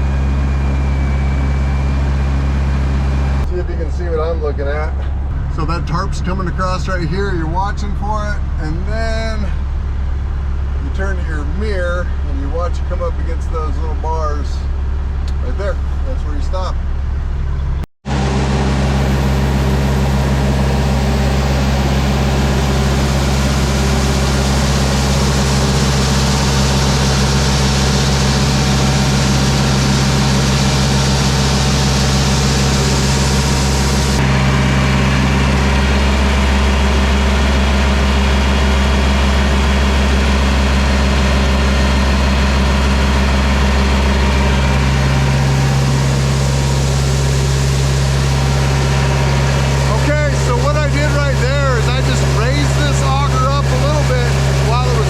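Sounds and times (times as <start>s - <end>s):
farm machinery engines humming: 0.0s - 55.0s.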